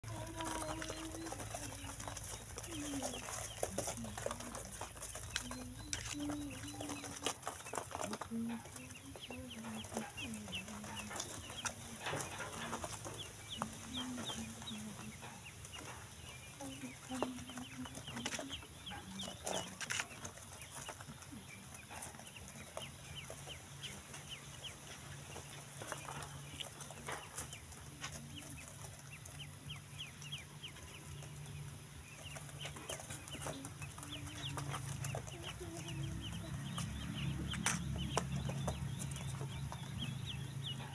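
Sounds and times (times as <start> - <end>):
ducklings peeping: 0.0 - 40.9.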